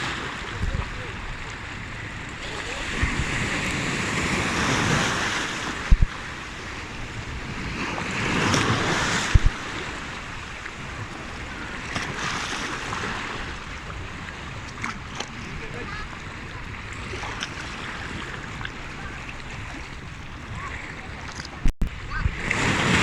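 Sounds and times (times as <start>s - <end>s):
sea waves washing in: 0.0s - 23.0s.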